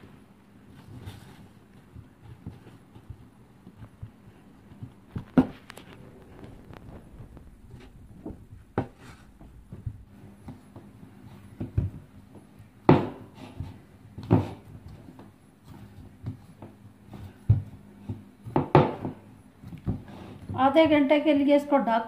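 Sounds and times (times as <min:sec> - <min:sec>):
dough kneading knocks and thumps: 0:00.0 - 0:21.3.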